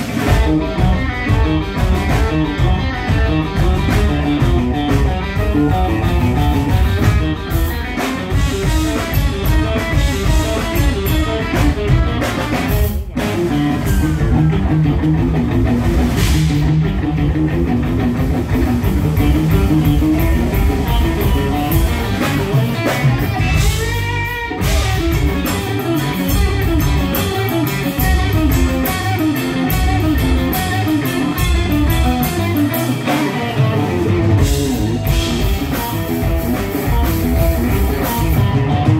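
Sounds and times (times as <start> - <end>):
live rock band playing: 0.0 - 38.9
wavering sliding guitar: 0.0 - 38.9.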